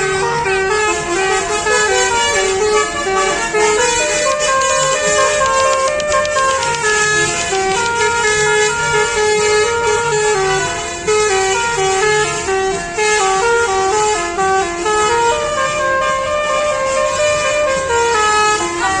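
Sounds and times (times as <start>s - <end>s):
musical bus air horn tune: 0.0s - 19.0s.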